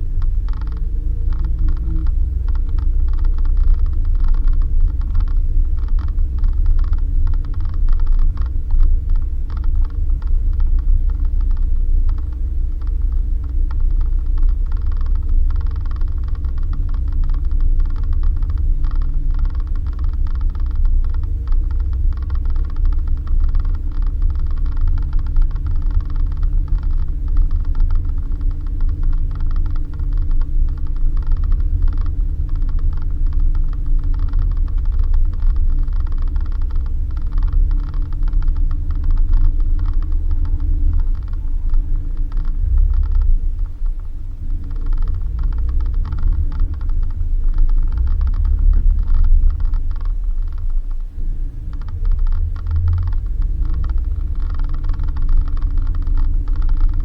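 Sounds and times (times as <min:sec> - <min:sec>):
engine and road drone: 0:00.0 - 0:57.0
vehicle creaking and rattling: 0:00.0 - 0:57.0.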